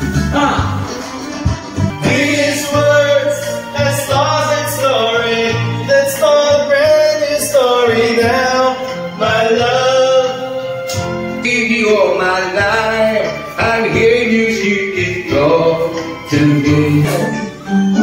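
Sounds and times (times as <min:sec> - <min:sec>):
recorded backing track: 0:00.0 - 0:18.0
man singing into a microphone: 0:01.9 - 0:18.0.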